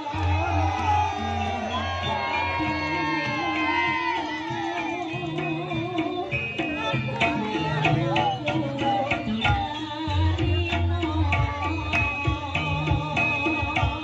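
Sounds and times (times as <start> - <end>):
ringing tuned metal percussion: 0.0 - 14.0.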